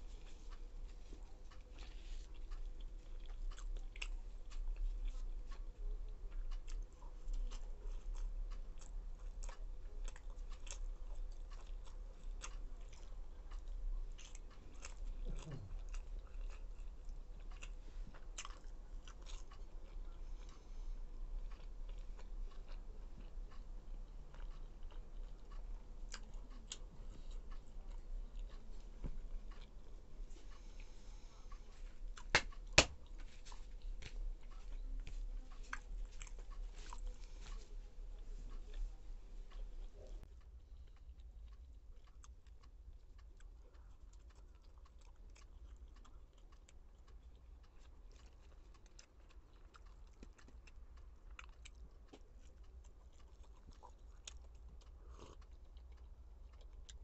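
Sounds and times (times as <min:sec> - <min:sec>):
close-up chewing: 0:00.0 - 0:57.0.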